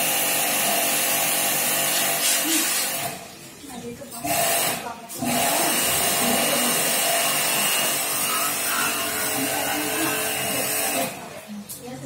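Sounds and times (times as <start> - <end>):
pressure washer jet hissing: 0.0 - 3.1, 4.3 - 11.3.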